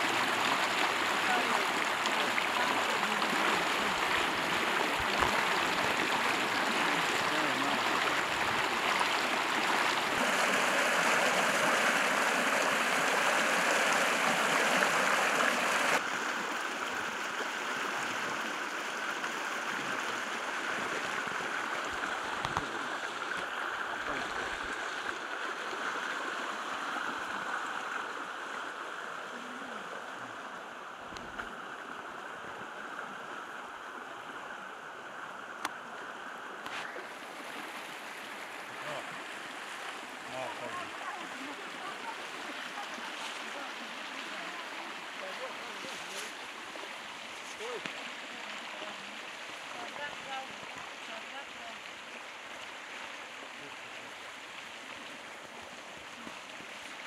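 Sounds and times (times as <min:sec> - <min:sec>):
fast-flowing river rushing: 0:00.0 - 0:29.4, 0:36.7 - 0:57.0.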